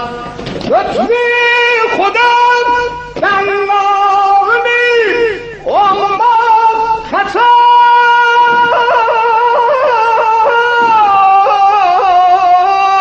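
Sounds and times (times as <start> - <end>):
man singing in high voice: 0.0 - 13.0.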